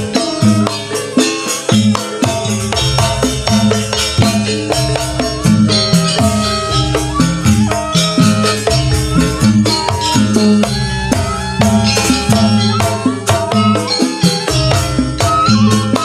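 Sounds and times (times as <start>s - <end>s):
percussion steady beat: 0.0s - 16.0s
pitched melody: 0.0s - 16.0s.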